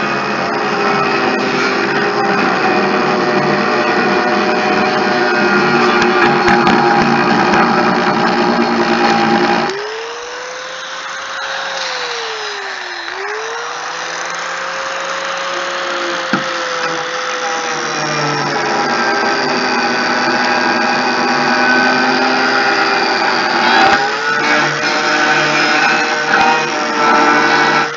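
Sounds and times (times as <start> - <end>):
power tool grinding and whining: 0.0 - 27.9.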